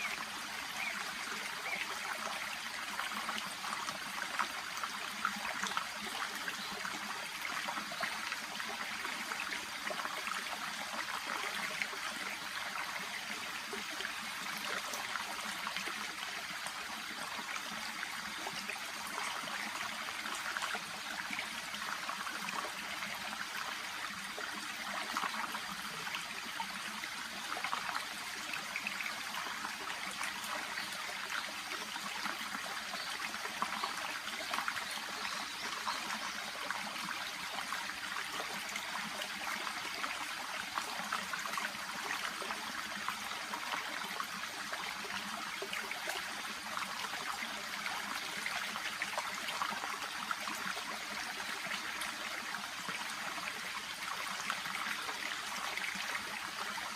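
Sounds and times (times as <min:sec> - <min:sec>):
brook babbling: 0:00.0 - 0:56.9.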